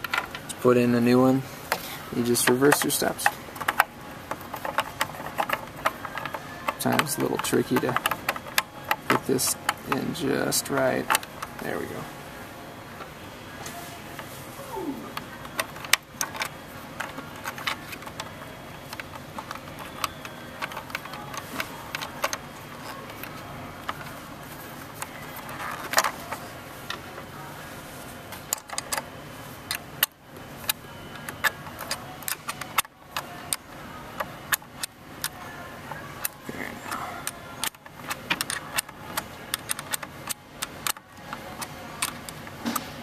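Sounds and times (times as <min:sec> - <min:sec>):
plastic parts clicking and rattling: 0:00.0 - 0:00.6, 0:02.2 - 0:12.0, 0:15.4 - 0:27.0, 0:28.4 - 0:29.1, 0:29.7 - 0:43.0.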